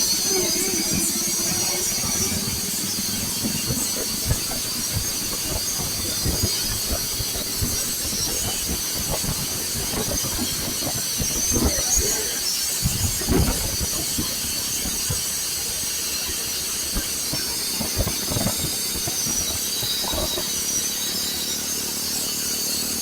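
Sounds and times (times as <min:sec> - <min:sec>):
wind buffeting microphone: 0:00.0 - 0:20.7.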